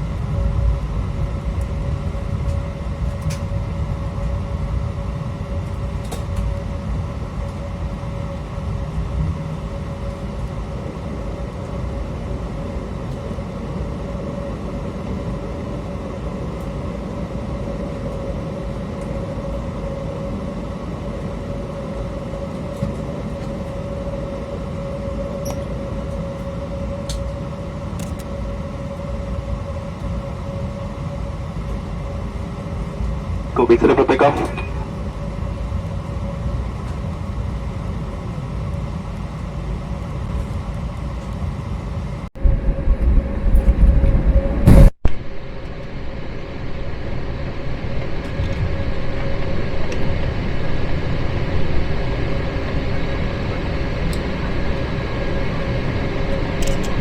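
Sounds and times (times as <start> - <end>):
airliner cabin rumble and hum: 0.0 - 57.0.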